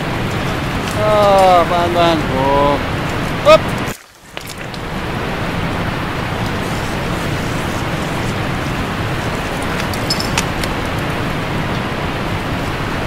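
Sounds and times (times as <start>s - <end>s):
stream water rushing over rock: 0.0s - 13.0s.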